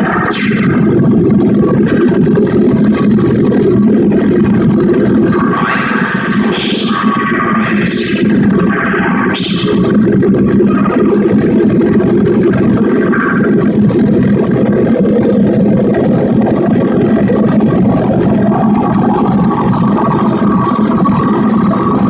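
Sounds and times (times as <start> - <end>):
electronic noise drone: 0.0 - 22.0
low hum: 0.0 - 22.0.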